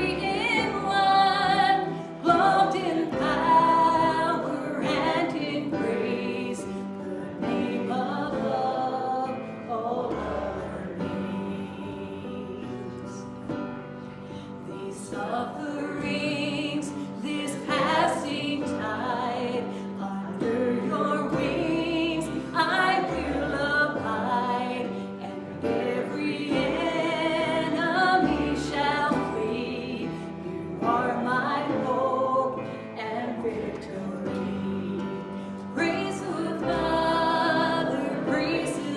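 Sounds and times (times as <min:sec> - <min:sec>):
song with instrumental accompaniment: 0:00.0 - 0:38.9.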